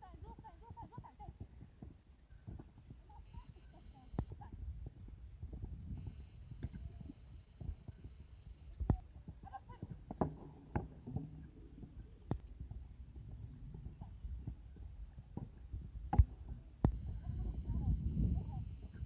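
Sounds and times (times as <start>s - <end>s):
horse hooves thumping on turf: 0.0s - 19.0s
wind rumbling on microphone: 0.0s - 19.0s.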